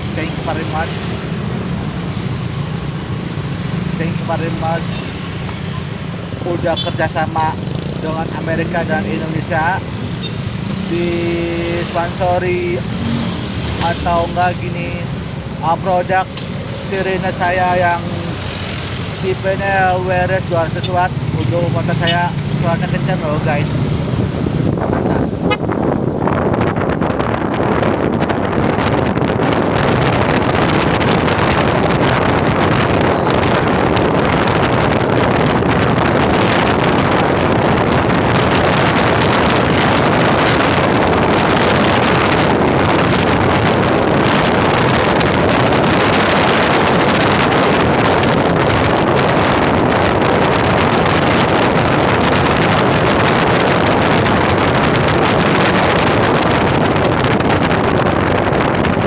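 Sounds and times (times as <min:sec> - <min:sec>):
vehicle rushing noise: 0:00.0 - 0:59.0
wind buffeting microphone: 0:00.0 - 0:59.0.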